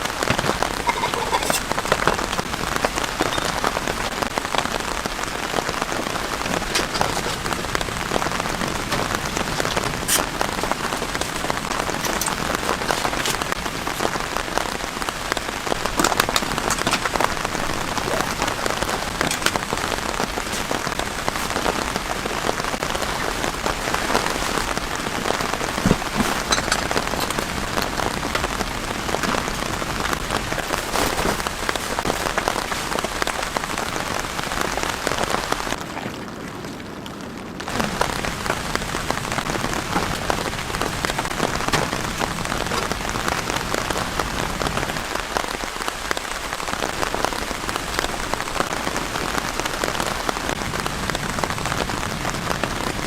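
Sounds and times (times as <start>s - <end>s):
raindrop hits: 0.0s - 53.0s
steady rain: 0.0s - 53.0s.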